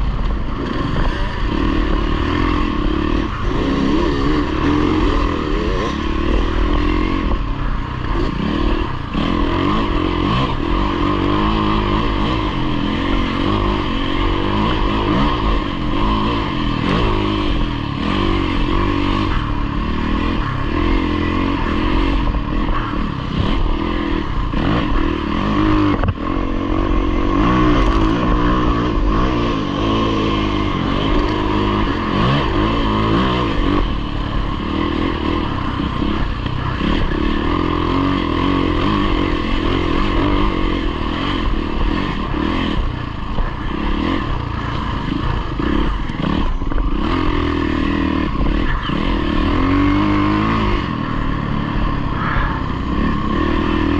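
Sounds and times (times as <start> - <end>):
dirt bike engine running hard: 0.0 - 53.9.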